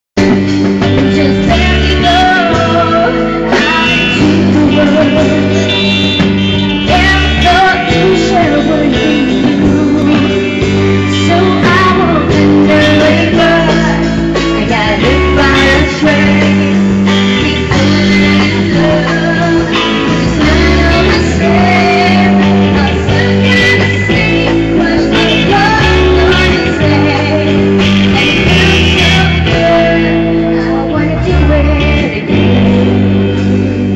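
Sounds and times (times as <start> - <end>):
bass: 0.0 - 33.9
guitar: 0.0 - 33.9
drums: 0.2 - 33.9
woman singing into microphone: 0.2 - 33.9.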